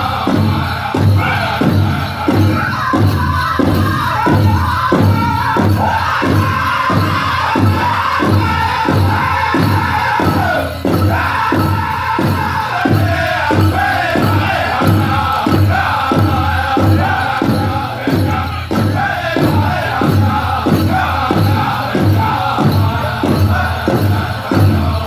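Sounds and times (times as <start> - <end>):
big drum beat: 0.0 - 25.0
group singing in high voices: 0.0 - 25.0.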